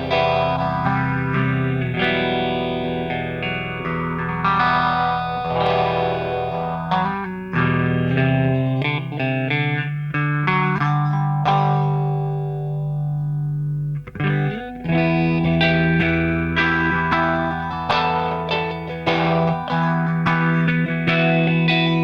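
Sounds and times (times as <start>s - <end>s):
electric guitar with phaser: 0.0s - 22.0s.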